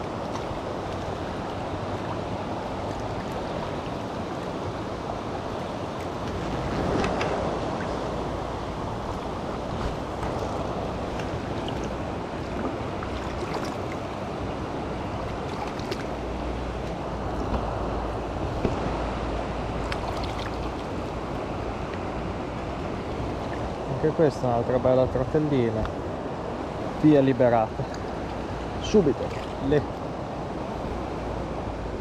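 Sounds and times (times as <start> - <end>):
river current rushing: 0.0 - 32.0.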